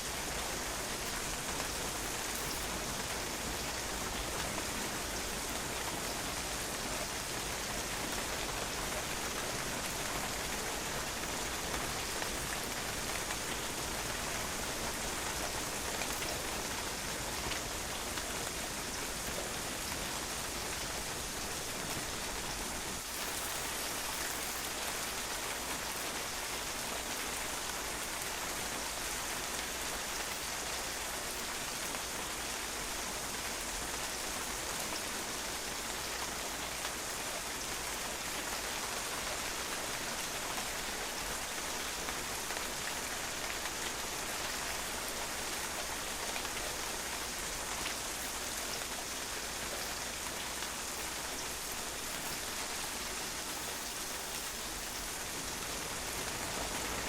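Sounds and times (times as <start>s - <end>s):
rain pattering on patio: 0.0s - 57.0s.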